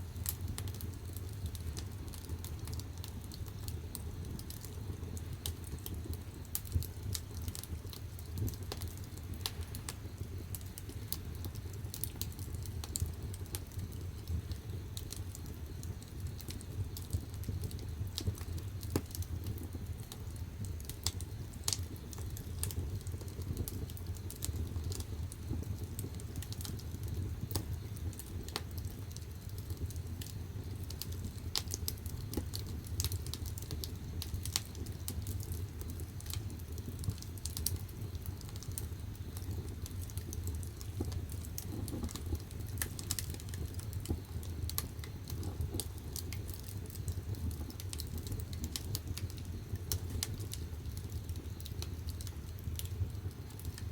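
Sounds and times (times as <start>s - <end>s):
firewood crackling and popping: 0.0s - 53.9s
low rumble of fire: 0.0s - 53.9s.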